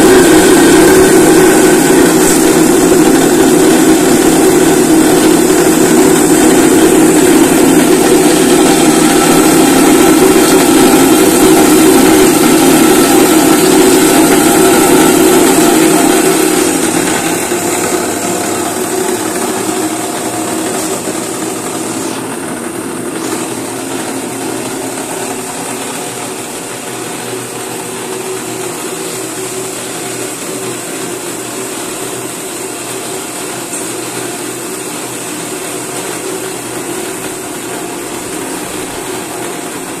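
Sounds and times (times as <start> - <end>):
grinding machine motor hum: 0.0 - 40.0.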